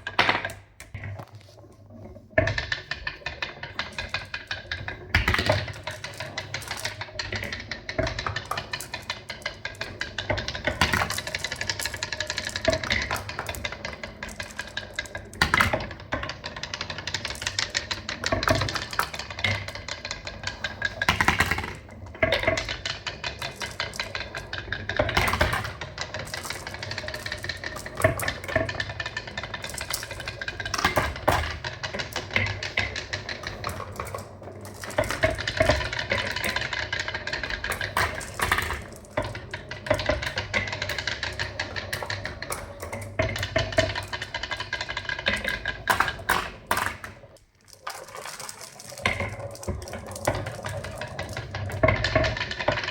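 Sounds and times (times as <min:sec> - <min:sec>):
marbles rolling and clattering: 0:00.0 - 0:52.9.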